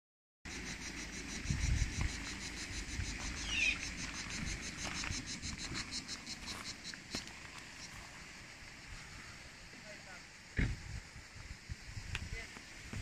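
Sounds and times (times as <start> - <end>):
insects chirping: 0.5 - 13.0.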